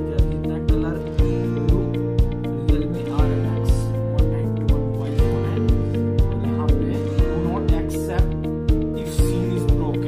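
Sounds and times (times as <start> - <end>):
held chords: 0.0 - 10.0
kick drum beat: 0.0 - 10.0.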